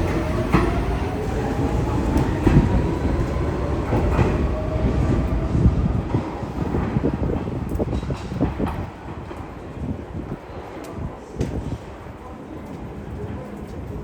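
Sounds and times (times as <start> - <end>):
wheels rumbling on rail: 0.0 - 12.1.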